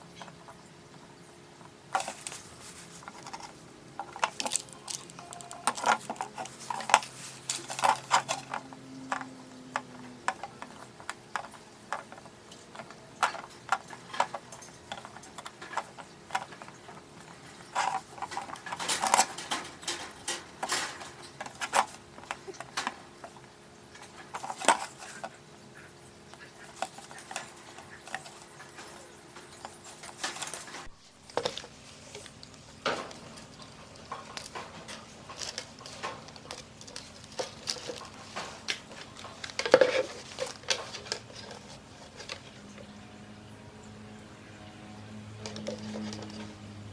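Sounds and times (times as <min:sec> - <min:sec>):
faint steady hum: 0:00.0 - 0:46.9
hand tools clicking and clinking: 0:01.9 - 0:25.4, 0:26.3 - 0:42.6.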